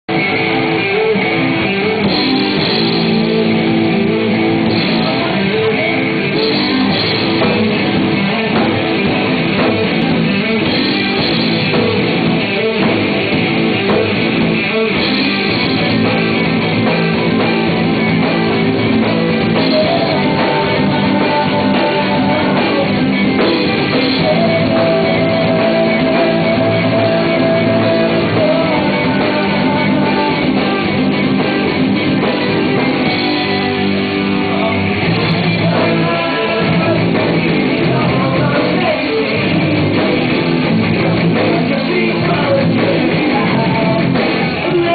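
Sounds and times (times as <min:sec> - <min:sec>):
live rock band playing: 0:00.1 - 0:44.9
person singing: 0:00.1 - 0:44.9.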